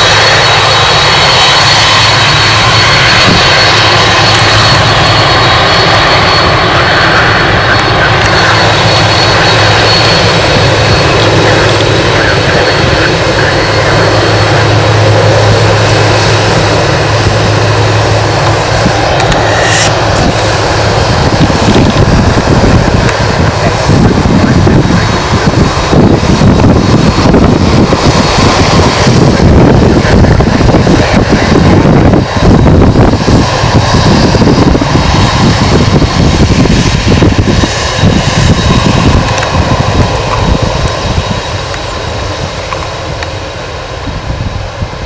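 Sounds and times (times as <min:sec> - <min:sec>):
jet engines whining and rumbling: 0:00.0 - 0:45.0.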